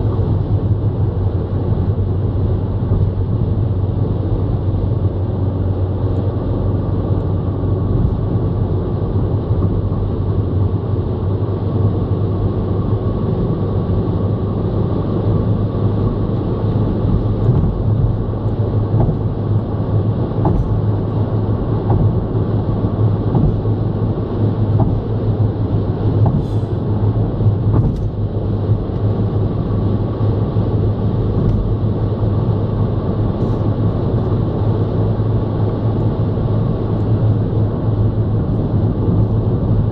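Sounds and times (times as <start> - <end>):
car cabin road and tyre rumble: 0.0 - 39.9.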